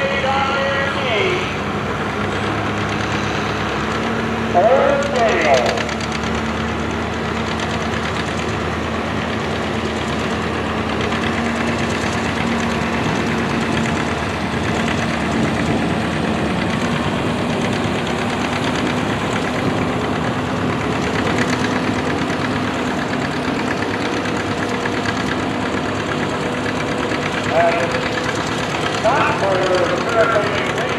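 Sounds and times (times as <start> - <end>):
tractor engine knocking: 0.0 - 30.9.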